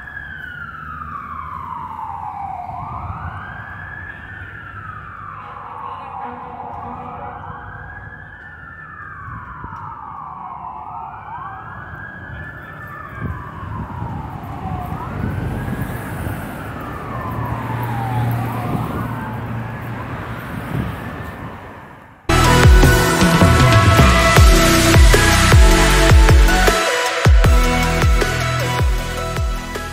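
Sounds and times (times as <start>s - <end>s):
siren wailing: 0.0s - 21.6s, 22.3s - 29.9s
city traffic rumble: 0.0s - 26.7s
second siren: 0.0s - 29.9s.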